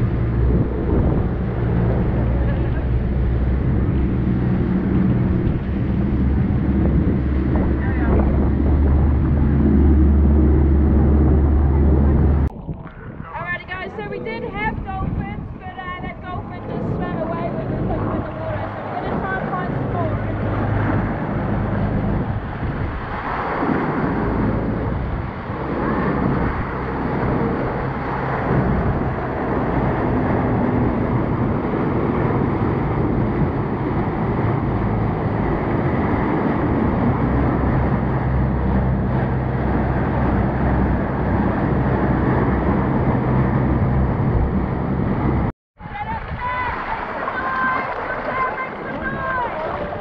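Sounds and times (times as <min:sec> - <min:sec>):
churning wake water: 0:00.0 - 0:50.0
motorboat engine drone: 0:00.0 - 0:50.0.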